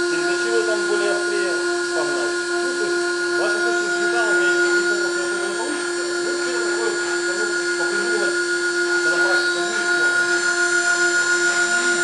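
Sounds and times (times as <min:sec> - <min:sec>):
milling spindle whine: 0:00.0 - 0:12.0.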